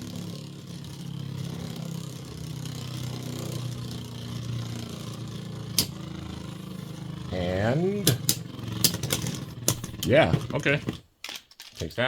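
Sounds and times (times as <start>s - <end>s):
spinning tops whirring: 0.0s - 11.0s.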